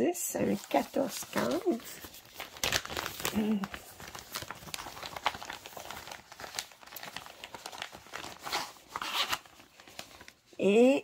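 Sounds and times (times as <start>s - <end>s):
plastic packaging crinkling: 0.4s - 10.5s.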